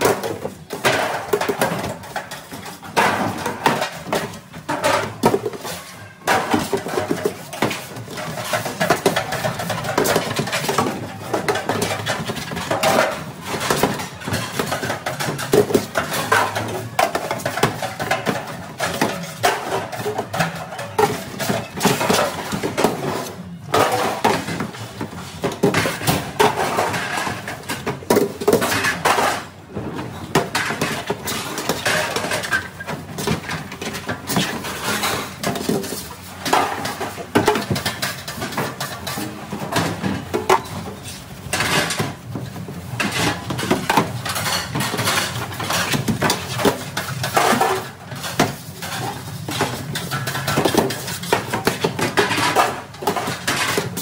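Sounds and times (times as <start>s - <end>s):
steel pans clanking and scraping: 0.0s - 54.0s.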